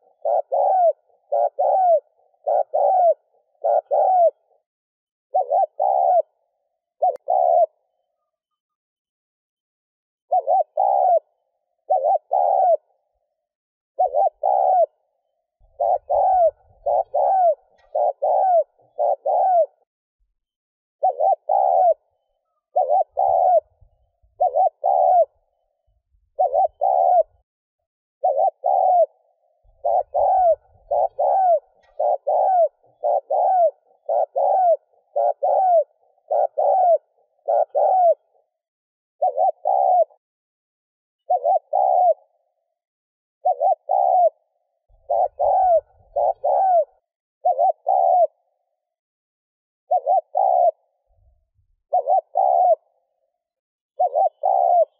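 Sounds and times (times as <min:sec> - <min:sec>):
dove cooing: 0:00.0 - 0:04.7, 0:05.3 - 0:08.4, 0:10.3 - 0:19.9, 0:21.0 - 0:27.5, 0:28.2 - 0:40.3, 0:41.2 - 0:42.8, 0:43.4 - 0:49.0, 0:49.8 - 0:54.9.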